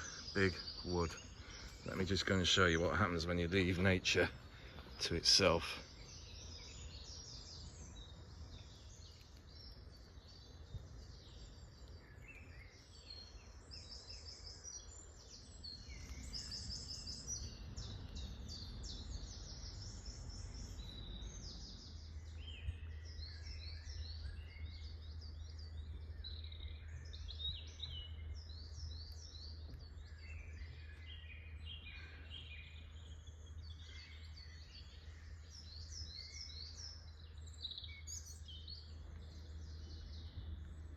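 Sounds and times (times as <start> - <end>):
songbirds singing and calling: 0.0 - 40.9.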